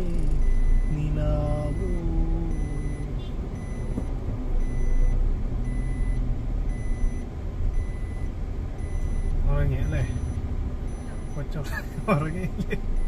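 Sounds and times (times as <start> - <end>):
car engine and road rumble: 0.0 - 13.0
high electronic beep: 0.3 - 7.2, 7.8 - 12.1.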